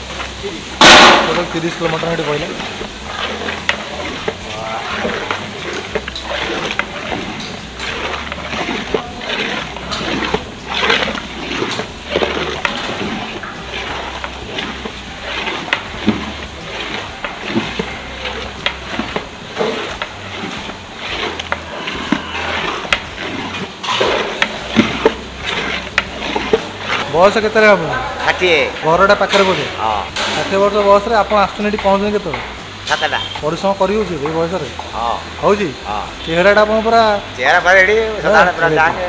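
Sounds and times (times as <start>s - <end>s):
liquid sloshing in a pot: 0.0s - 39.0s
voices talking: 0.0s - 39.0s.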